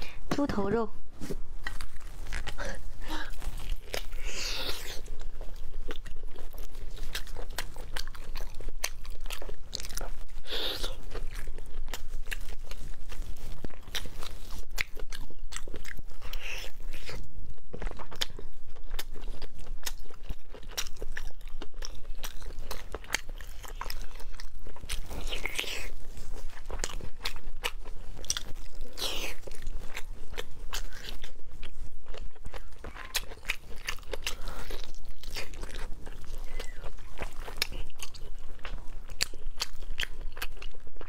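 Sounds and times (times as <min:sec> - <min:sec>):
chewing with mouth clicks: 0:01.6 - 0:41.0.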